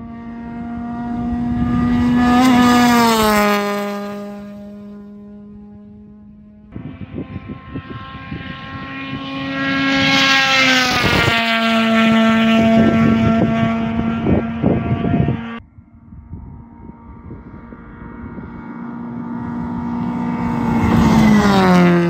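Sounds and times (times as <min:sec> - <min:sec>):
rally car engine speeding past: 0:00.0 - 0:22.0.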